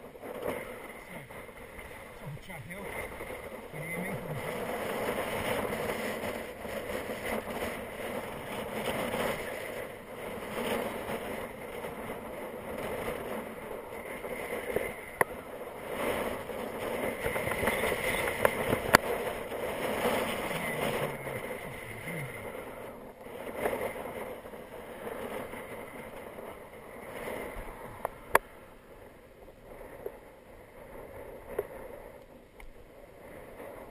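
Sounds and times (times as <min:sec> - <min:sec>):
wind on microphone: 0:00.0 - 0:33.9.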